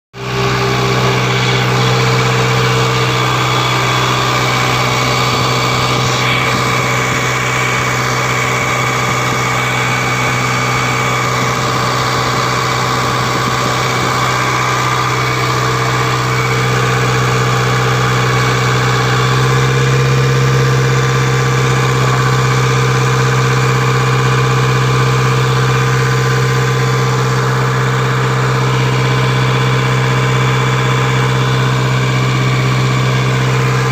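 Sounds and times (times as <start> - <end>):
diesel engine idling: 0.2 - 33.9.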